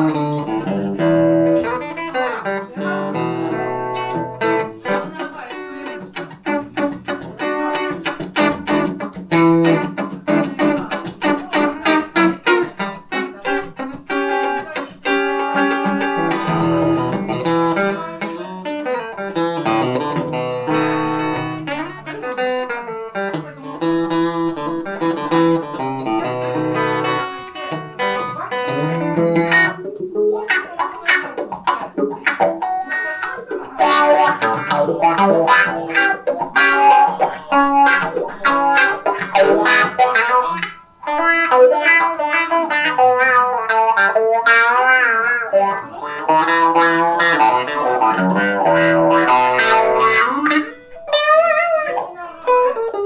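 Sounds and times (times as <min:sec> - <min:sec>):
electric guitar playing blues: 0:00.0 - 0:53.0.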